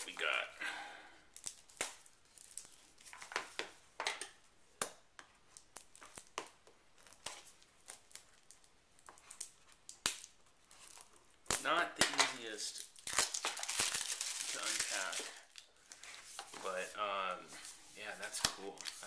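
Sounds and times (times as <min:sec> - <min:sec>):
wrapping crinkling and tearing: 0:01.3 - 0:03.6, 0:05.4 - 0:19.0.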